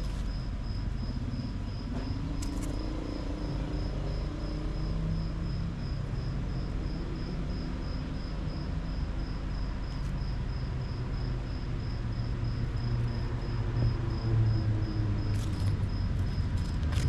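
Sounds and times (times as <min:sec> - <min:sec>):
insect chirping: 0:00.0 - 0:17.0
low rumble of traffic: 0:00.0 - 0:17.0.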